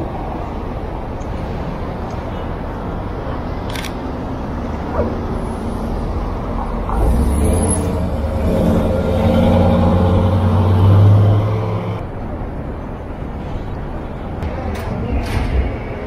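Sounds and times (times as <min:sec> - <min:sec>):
city traffic noise: 0:00.0 - 0:16.0
truck engine rumble: 0:00.0 - 0:16.0.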